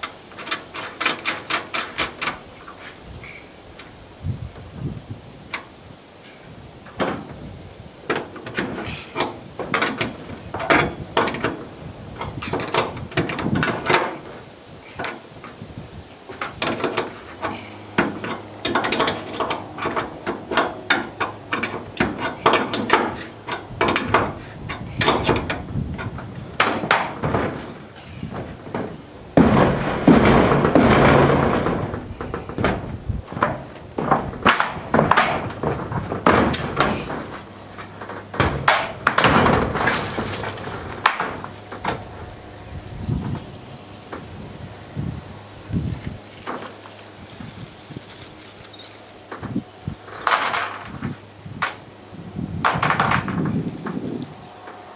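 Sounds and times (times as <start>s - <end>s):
metal rails clicking and clanking: 0.0s - 4.7s, 5.5s - 44.9s, 45.6s - 51.9s, 52.6s - 54.9s
rough noise: 0.0s - 54.9s.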